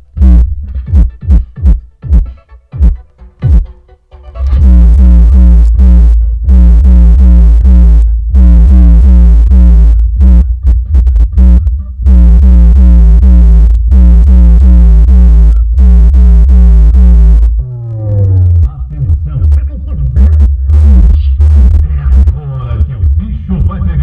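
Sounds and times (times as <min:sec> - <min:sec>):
loud electronic music with deep bass: 0:00.0 - 0:03.8, 0:04.4 - 0:24.0.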